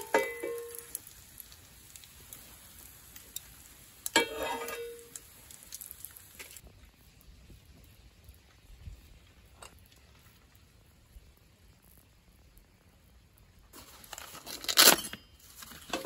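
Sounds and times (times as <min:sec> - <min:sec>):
bread sizzling in oil: 0:00.0 - 0:16.0
faint gas stove hiss: 0:00.0 - 0:16.0.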